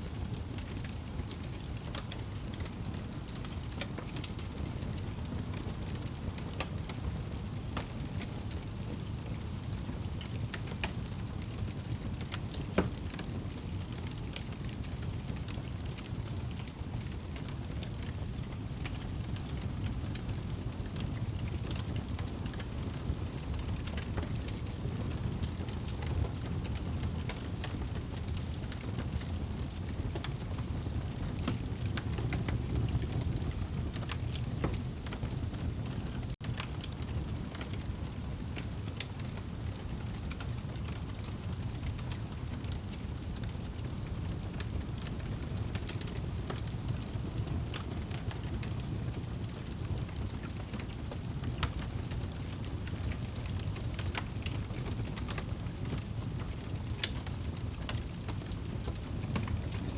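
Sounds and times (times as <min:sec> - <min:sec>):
fire crackling and popping: 0:00.1 - 0:59.9
fire rumbling: 0:00.1 - 0:59.9.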